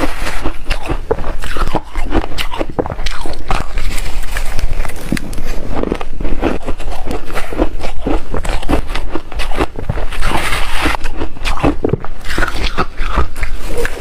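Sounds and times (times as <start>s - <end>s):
crunching and chewing ice: 0.0s - 14.0s.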